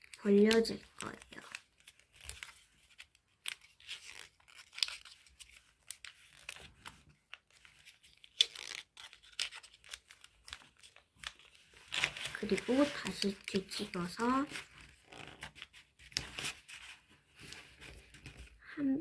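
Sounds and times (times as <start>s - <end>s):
paper rustling and crinkling: 0.0s - 18.6s.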